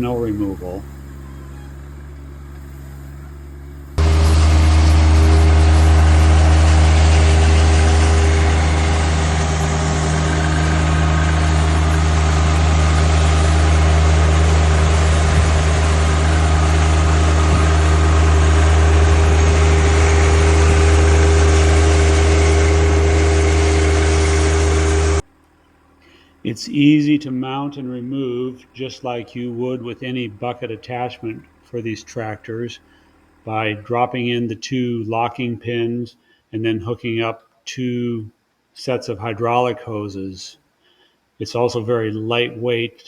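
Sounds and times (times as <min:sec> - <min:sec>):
tractor diesel engine: 0:00.0 - 0:35.2
faint low hum: 0:00.0 - 0:43.0.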